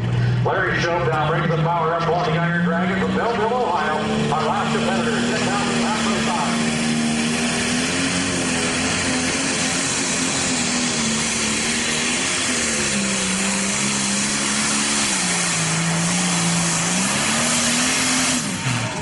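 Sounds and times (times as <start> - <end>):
diesel tractor engine at full power: 0.0 - 19.0.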